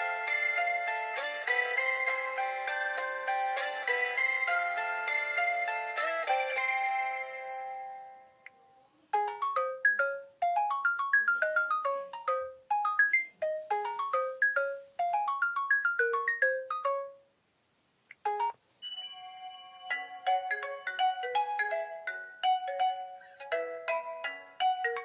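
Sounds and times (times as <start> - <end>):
mallet-like ringtone melody: 0.0 - 8.5, 9.1 - 17.2, 18.2 - 25.0.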